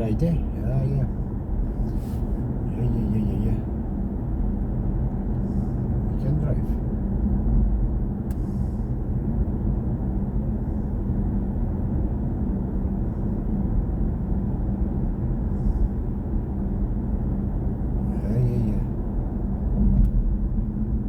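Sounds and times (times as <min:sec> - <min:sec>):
road and tyre noise: 0:00.0 - 0:21.0.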